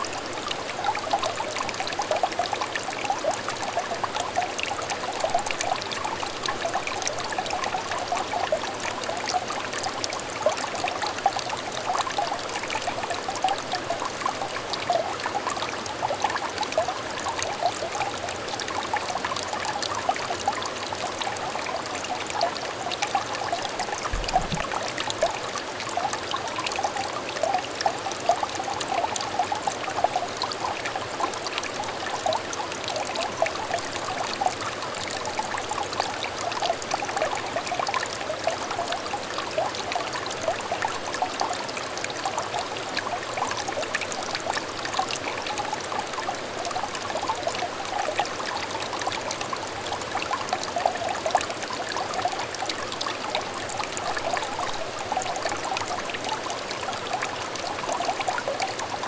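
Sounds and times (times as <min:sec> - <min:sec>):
stream trickling and babbling: 0:00.0 - 0:59.0.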